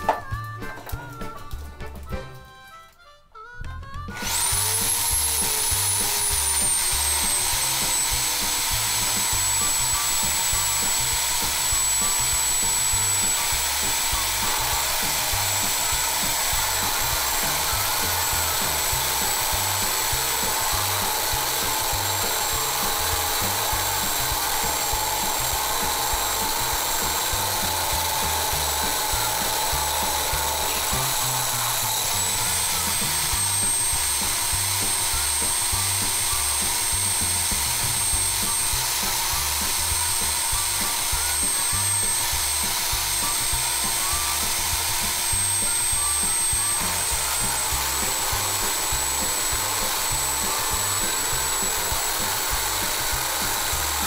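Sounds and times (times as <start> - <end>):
electric drill whining: 0.0 - 3.0, 3.8 - 54.0
drill bit grinding glass: 4.1 - 54.0.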